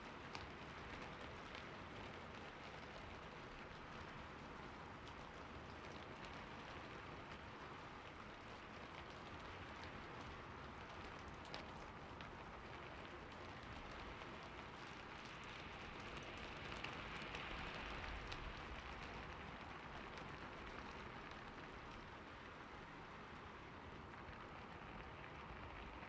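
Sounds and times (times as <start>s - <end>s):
rain on a roof: 0.0s - 26.0s.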